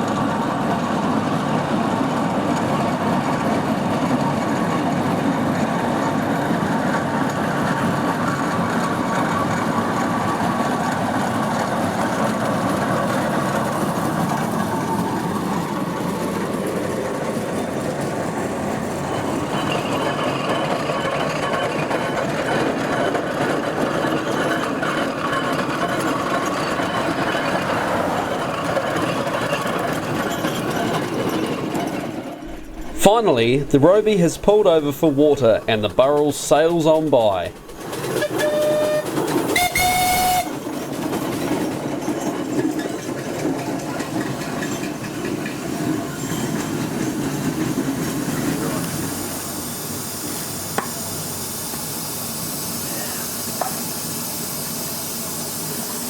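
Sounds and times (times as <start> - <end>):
steam traction engine clattering: 0.0 - 56.0.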